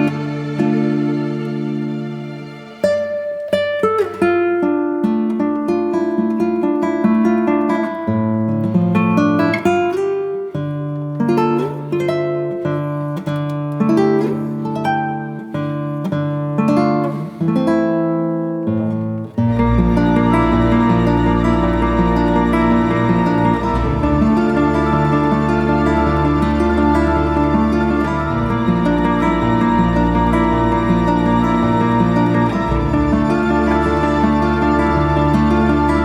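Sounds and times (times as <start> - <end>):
acoustic guitar plucking: 0.0 - 36.0.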